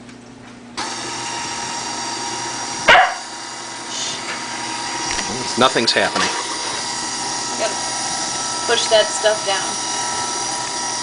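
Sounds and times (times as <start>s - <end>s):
stand mixer motor running: 0.8s - 11.0s.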